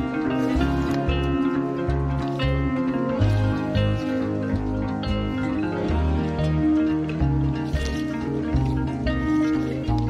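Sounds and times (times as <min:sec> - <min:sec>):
plucked melody over bass beat: 0:00.0 - 0:10.0.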